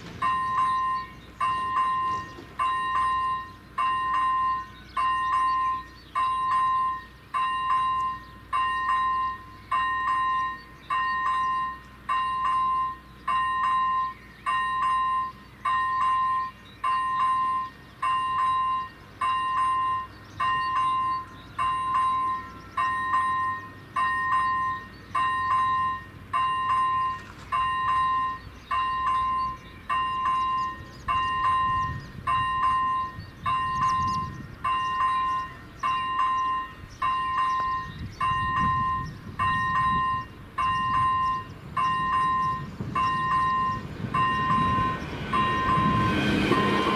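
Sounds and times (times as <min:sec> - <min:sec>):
level crossing bell dinging: 0:00.2 - 0:46.1.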